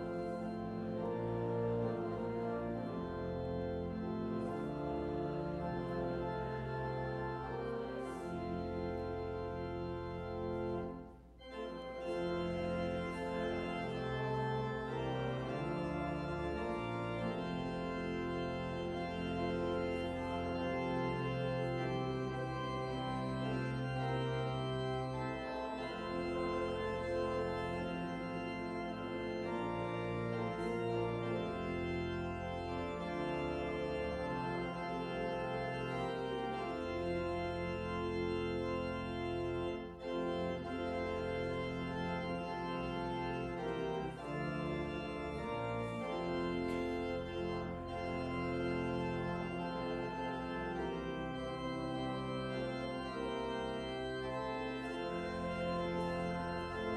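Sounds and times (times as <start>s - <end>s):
church organ playing chords: 0.0s - 56.9s.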